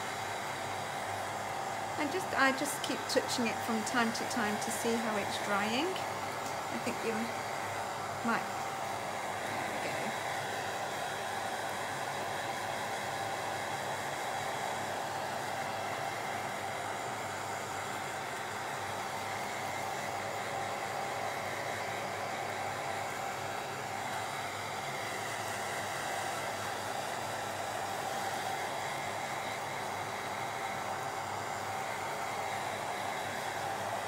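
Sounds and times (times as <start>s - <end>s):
hair dryer blowing air: 0.0s - 34.0s.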